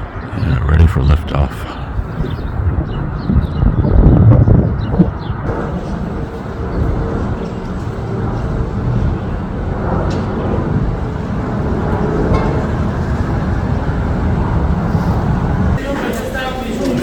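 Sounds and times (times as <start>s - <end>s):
low outdoor rumble: 0.0s - 15.8s.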